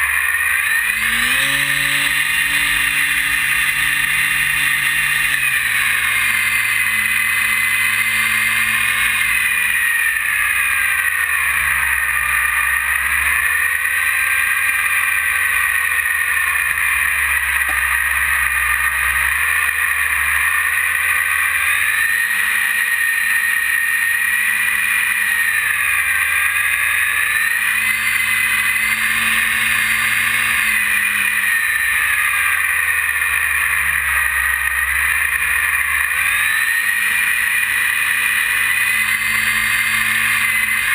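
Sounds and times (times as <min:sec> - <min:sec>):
electric motor and propeller whine: 0:00.0 - 0:40.9.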